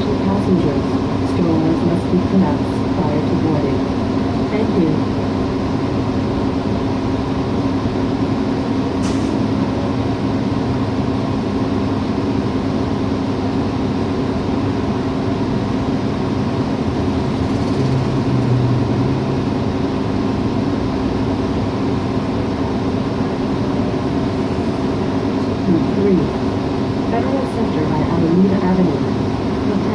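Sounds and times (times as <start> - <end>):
bus engine and road drone: 0.0 - 29.9.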